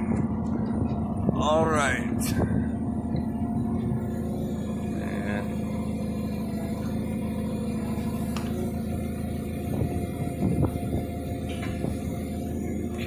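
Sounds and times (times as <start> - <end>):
forklift humming: 0.0 - 13.0.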